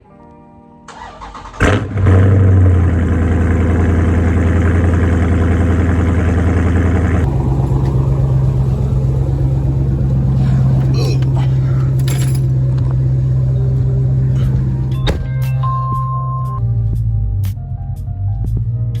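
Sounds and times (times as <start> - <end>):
car engine starting and idling: 0.9 - 16.6.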